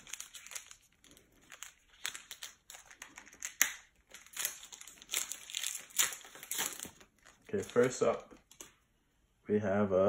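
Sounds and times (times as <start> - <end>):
wrapper tearing and crinkling: 0.0 - 8.7.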